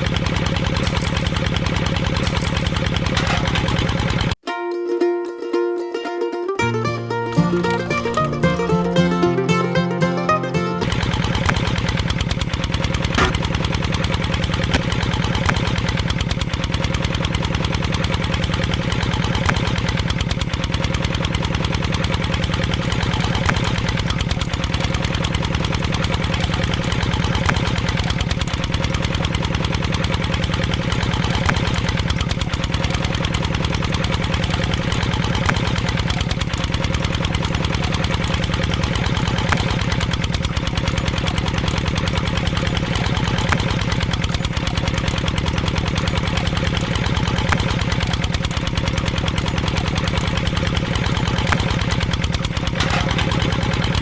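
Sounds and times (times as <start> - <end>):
small motor chugging: 0.0 - 4.4, 10.8 - 54.0.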